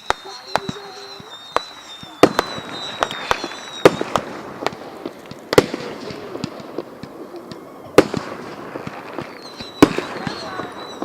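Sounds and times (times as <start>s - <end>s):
firework crackling: 0.0s - 11.0s
firework whistle: 0.0s - 11.0s
fireworks exploding: 0.0s - 11.0s.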